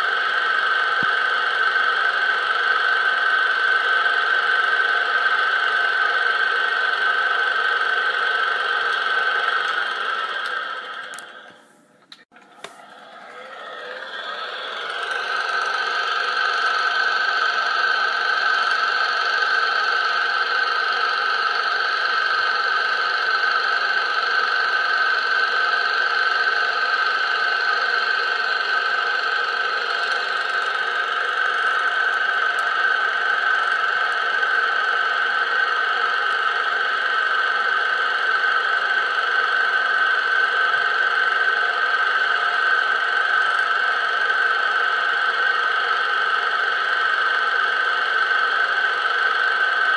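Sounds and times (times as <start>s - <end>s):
steady machine drone: 0.0s - 49.9s.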